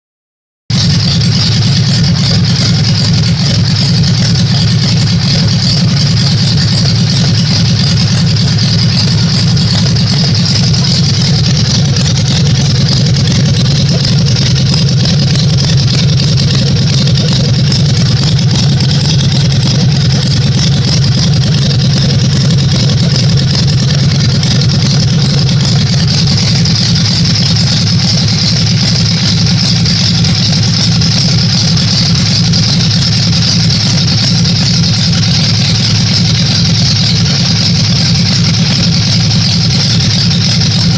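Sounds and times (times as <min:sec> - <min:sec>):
motorcycle engine fast idle: 0:00.7 - 0:40.9.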